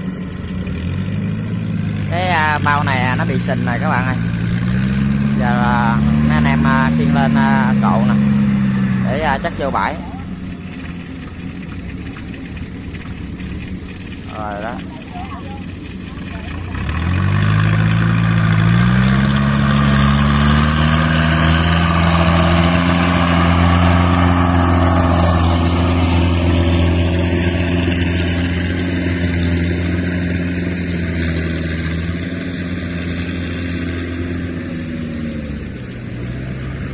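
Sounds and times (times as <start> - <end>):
tracked carrier engine revving: 0.0 - 36.9.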